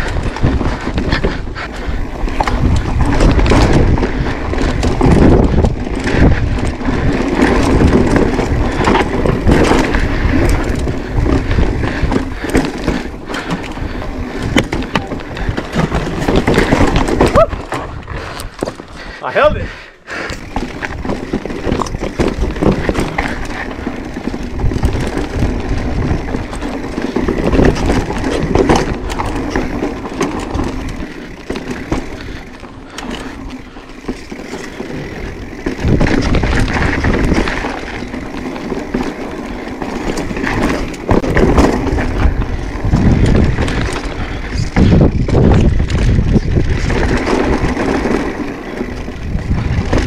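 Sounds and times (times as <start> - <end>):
bike clicks and rattles: 0.0 - 50.0
bike tyre noise on rock: 0.0 - 50.0
wind rumbling on microphone: 0.0 - 50.0.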